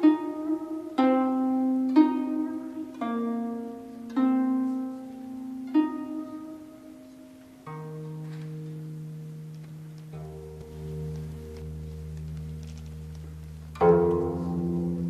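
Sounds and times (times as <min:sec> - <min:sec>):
plucked string instrument notes: 0:00.0 - 0:15.0.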